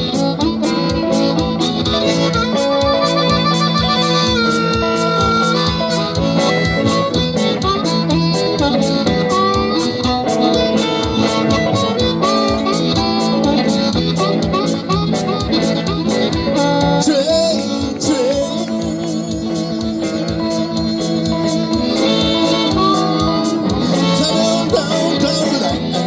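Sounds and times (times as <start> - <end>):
driving drum beat: 0.0 - 26.0
guitar: 0.0 - 26.0
lead instrument bending notes: 0.0 - 26.0.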